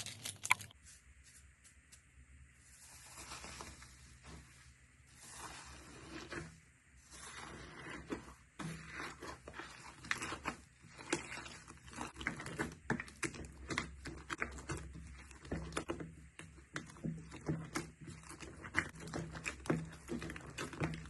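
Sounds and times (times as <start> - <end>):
slime squishing by hand: 2.6 - 21.0.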